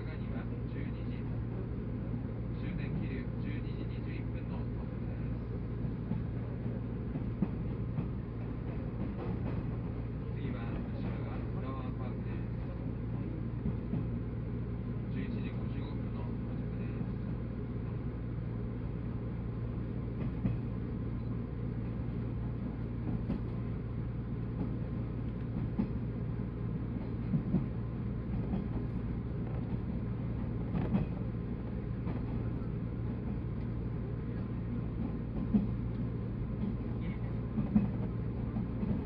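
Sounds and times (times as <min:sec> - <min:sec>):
train running low rumble: 0:00.0 - 0:39.0.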